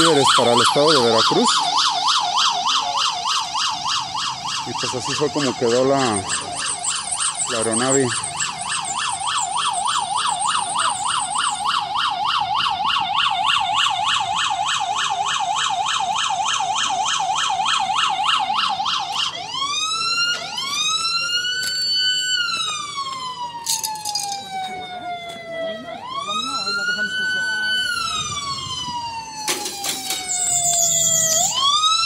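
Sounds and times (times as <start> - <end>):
ambulance siren: 0.0 - 32.0.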